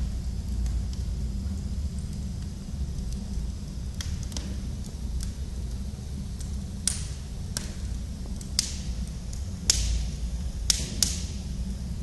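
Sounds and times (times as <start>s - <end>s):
low fire rumble: 0.0s - 12.0s
wood fire crackling and popping: 0.0s - 12.0s.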